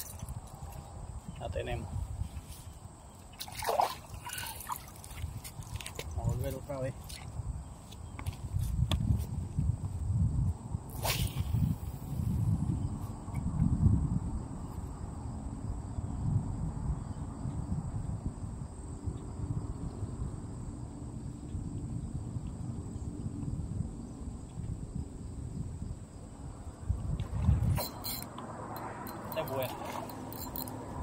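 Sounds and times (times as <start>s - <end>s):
low rumble of wind or water: 0.0s - 31.0s.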